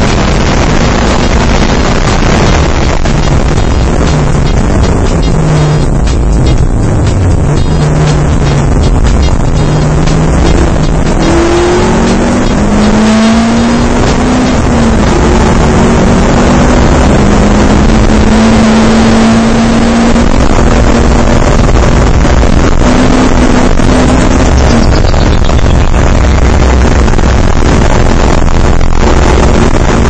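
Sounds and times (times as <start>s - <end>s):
race car engine revving: 0.0s - 30.0s
wind and road noise: 0.0s - 30.0s.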